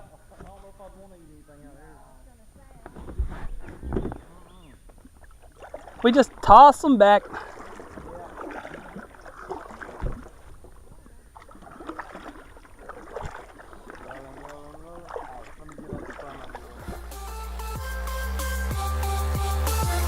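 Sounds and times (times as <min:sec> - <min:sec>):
water lapping against hull: 0:00.0 - 0:17.7.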